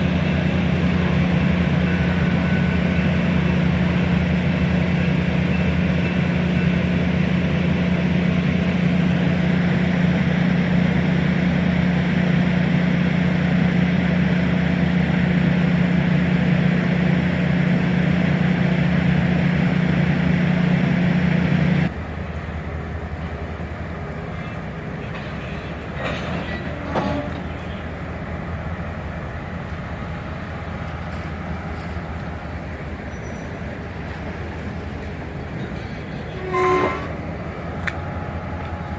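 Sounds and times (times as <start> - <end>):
passenger train rumbling: 0.0 - 38.9.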